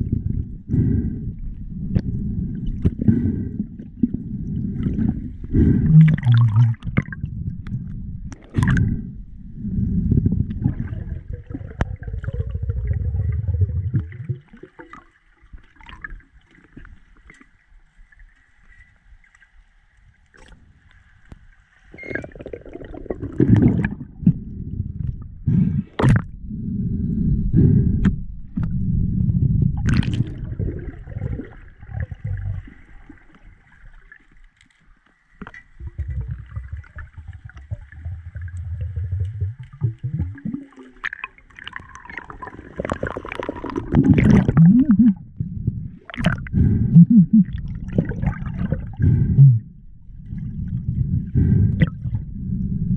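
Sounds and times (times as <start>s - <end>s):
underwater gurgling and bubbling: 0.0s - 17.2s, 21.9s - 34.3s, 35.5s - 52.9s.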